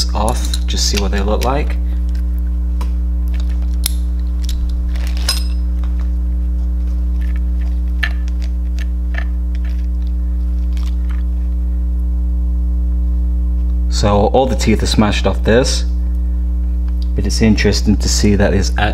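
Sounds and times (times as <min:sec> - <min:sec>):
loud steady electrical hum: 0:00.0 - 0:18.9.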